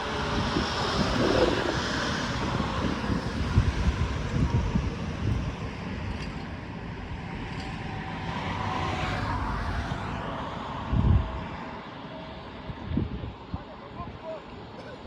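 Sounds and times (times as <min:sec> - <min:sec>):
wind on microphone: 0:00.0 - 0:11.8, 0:12.5 - 0:13.7
passing road vehicle: 0:00.0 - 0:13.1.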